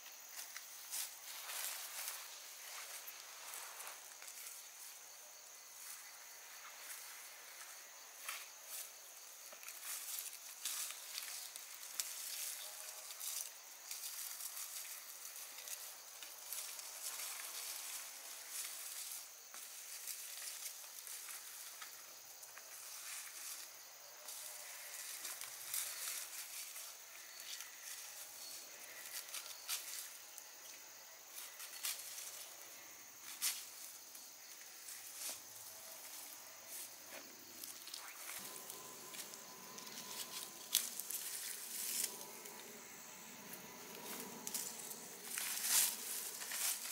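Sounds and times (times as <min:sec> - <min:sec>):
steady high hiss: 0:00.0 - 0:46.9
grass rustling and crackling: 0:00.1 - 0:46.9.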